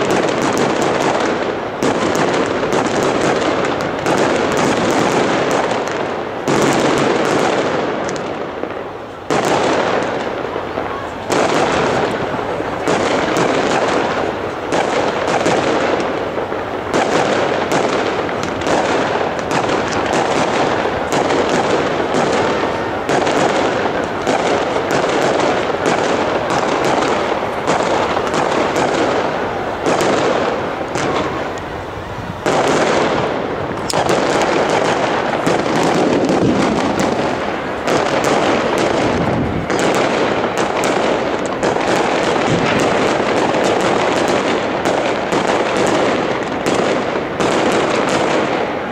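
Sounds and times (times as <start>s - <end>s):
fireworks bursting and crackling: 0.0s - 48.9s.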